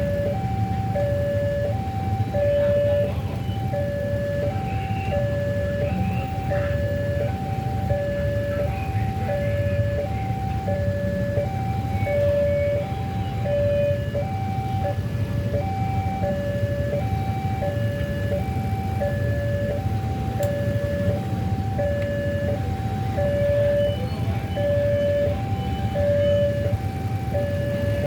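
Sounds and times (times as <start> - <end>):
level crossing two-tone alarm: 0.0 - 28.0
low hum of road traffic: 0.0 - 28.0.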